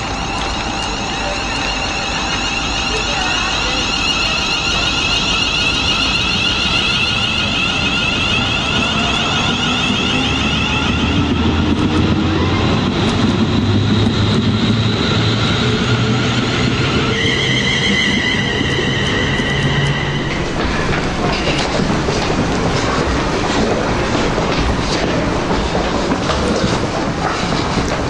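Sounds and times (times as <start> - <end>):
electric train whine: 0.0 - 28.0
train rumble: 0.0 - 28.0.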